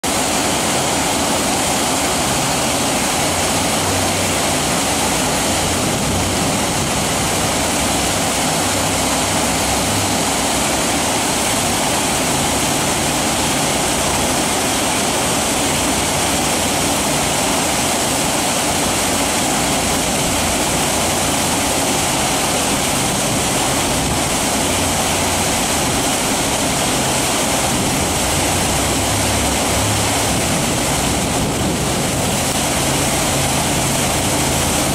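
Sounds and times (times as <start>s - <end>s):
jet boat engine running: 0.0s - 34.9s
whitewater rushing: 0.0s - 34.9s.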